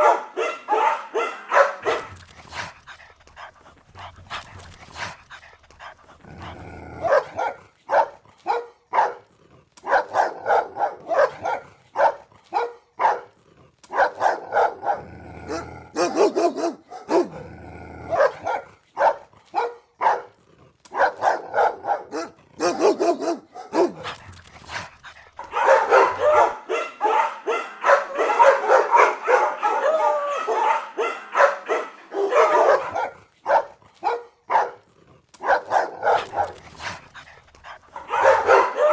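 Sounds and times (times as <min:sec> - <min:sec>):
dogs barking: 0:00.0 - 0:38.9.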